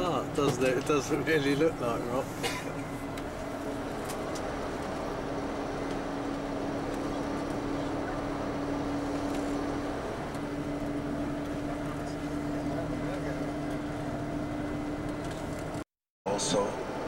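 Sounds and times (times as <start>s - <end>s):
coach engine and road noise: 0.0s - 17.0s.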